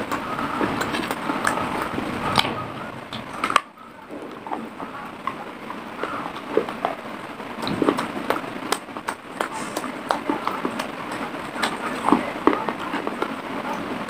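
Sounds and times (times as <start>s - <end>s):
chewing dry clay: 0.0s - 13.9s.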